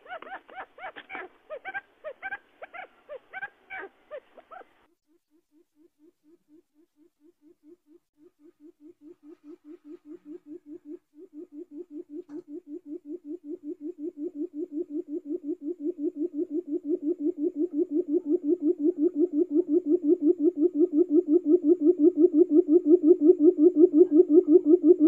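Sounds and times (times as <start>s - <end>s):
quail call low hoots: 0.0s - 4.8s, 5.8s - 25.0s.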